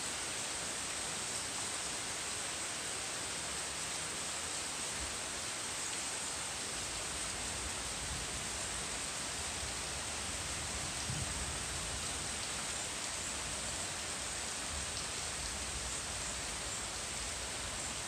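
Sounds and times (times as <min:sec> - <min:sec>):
heavy rain on leaves: 0:00.0 - 0:18.0.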